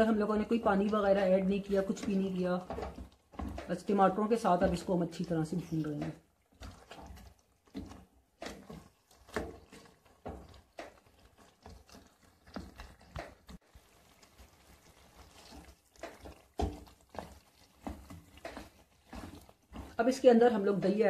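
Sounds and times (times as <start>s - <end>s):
spatula scraping and knocking pot: 0.0s - 21.0s.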